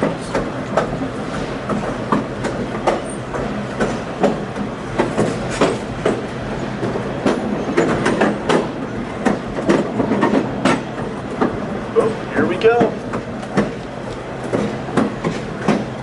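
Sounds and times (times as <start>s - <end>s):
train car rattling: 0.0s - 16.0s
train wheels rumbling on rail: 0.0s - 16.0s
wheels clacking over rail joints: 0.0s - 16.0s.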